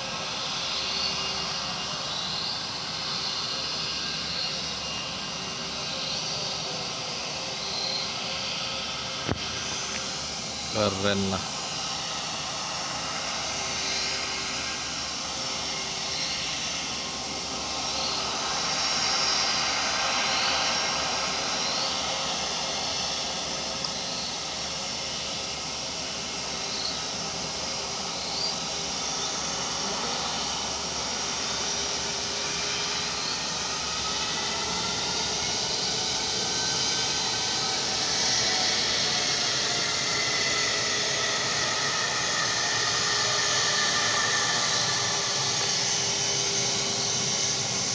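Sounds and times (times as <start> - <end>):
aircraft engine roar: 0.0 - 47.9.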